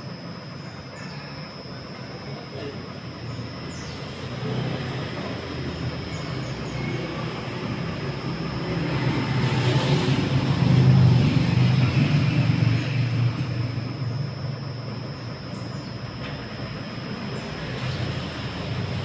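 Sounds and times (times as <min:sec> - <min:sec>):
carpet spinner drum whirring: 0:00.0 - 0:19.0.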